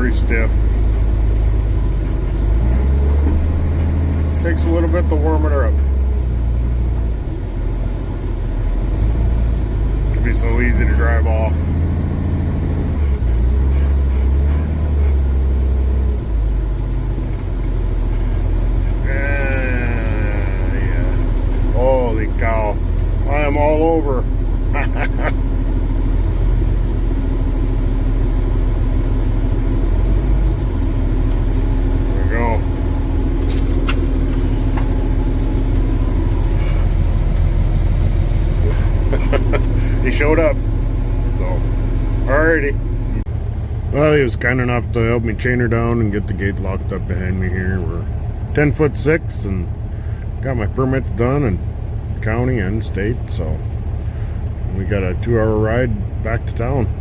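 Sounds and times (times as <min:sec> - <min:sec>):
wheel loader diesel engine: 0:00.0 - 0:57.0.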